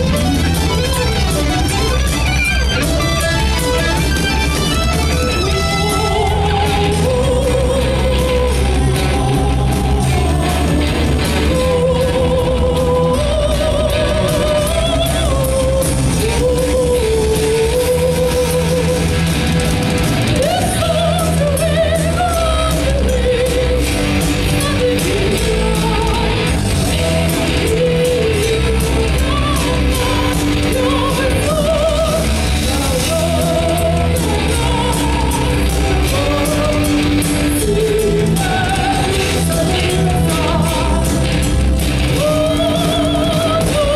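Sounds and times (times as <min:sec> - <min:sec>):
bass guitar: 0:00.0 - 0:43.9
drums: 0:00.0 - 0:43.9
electric guitar: 0:00.0 - 0:43.9
woman singing: 0:05.0 - 0:19.4, 0:20.3 - 0:43.9.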